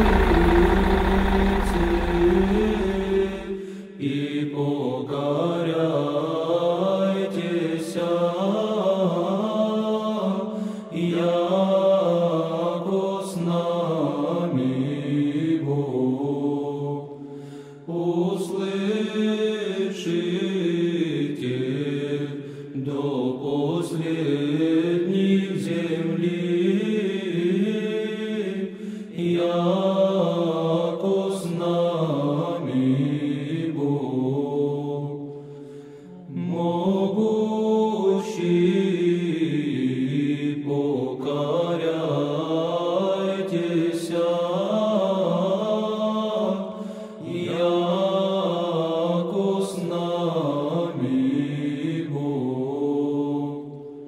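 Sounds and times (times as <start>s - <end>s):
choir chanting: 0.0s - 17.2s, 17.8s - 35.4s, 36.0s - 54.0s.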